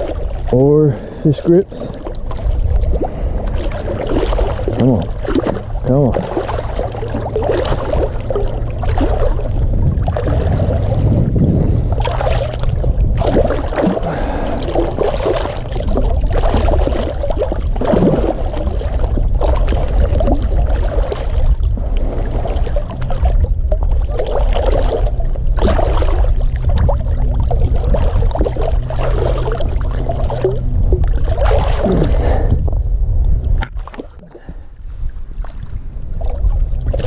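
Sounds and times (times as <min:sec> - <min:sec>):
water splashing and sloshing: 0:00.0 - 0:37.0
wind rumble on microphone: 0:00.0 - 0:37.0.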